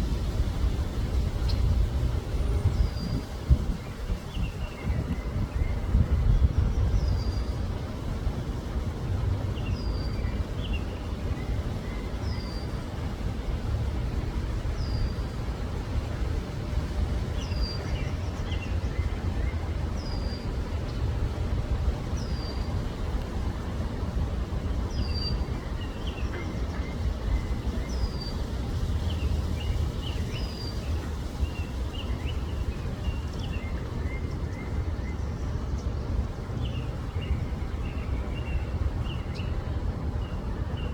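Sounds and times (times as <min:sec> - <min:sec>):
birds chirping softly: 0:00.1 - 0:40.9.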